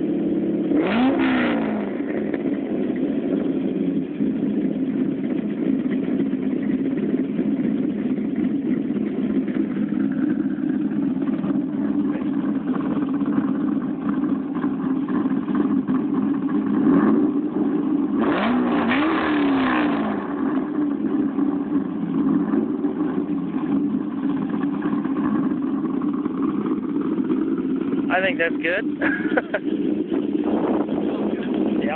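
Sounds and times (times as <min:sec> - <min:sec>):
car engine idling and revving: 0:00.0 - 0:31.9.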